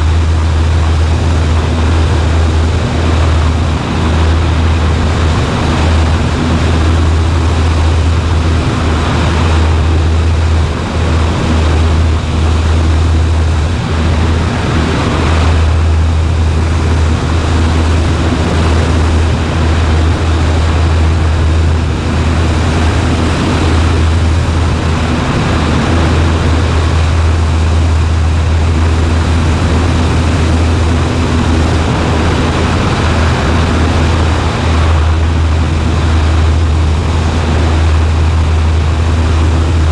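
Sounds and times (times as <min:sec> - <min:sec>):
airplane engine droning: 0:00.0 - 0:39.9
wind rush: 0:00.0 - 0:39.9.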